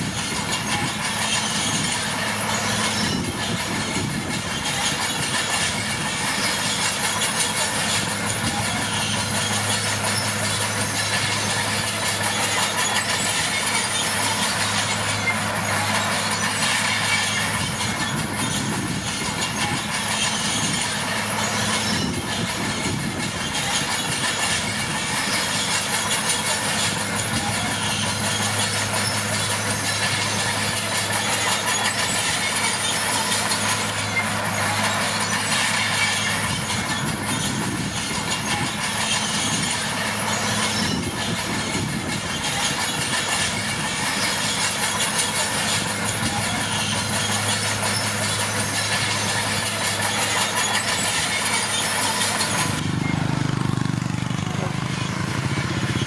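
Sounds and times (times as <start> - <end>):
diesel engine humming: 0.0 - 56.0
steel tracks clattering and squeaking: 0.0 - 56.0.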